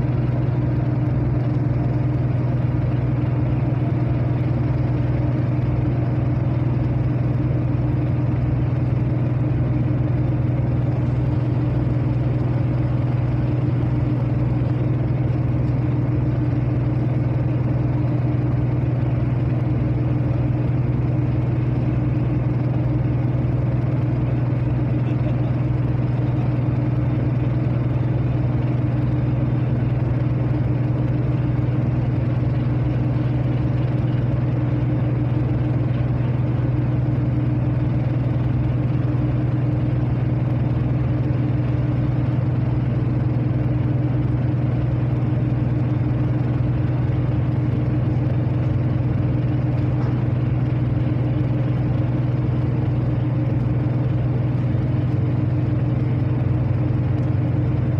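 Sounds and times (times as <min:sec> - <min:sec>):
ferry engine drone: 0:00.0 - 0:57.9.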